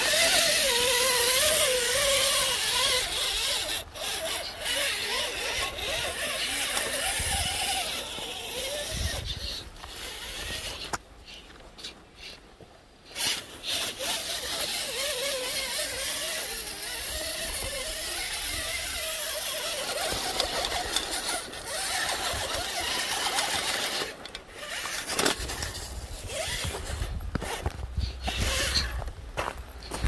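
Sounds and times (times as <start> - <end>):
motor and gearbox whining: 0.0 - 12.4, 13.1 - 30.0
tyres crunching on gravel: 0.0 - 30.0.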